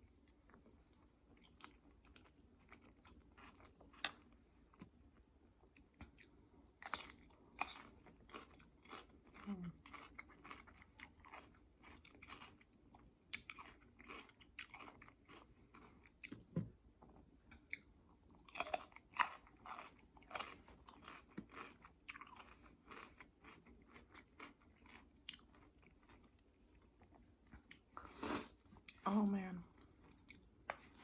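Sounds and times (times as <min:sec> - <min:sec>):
person chewing with wet smacks: 0:00.1 - 0:29.0, 0:29.6 - 0:31.0.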